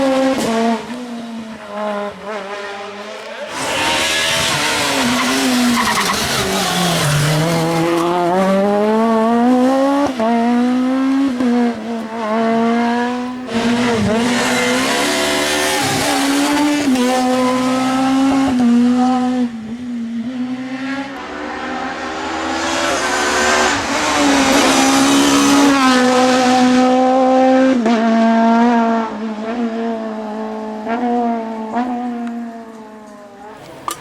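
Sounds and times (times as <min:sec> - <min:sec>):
rally car engine at high revs: 0:00.0 - 0:34.0.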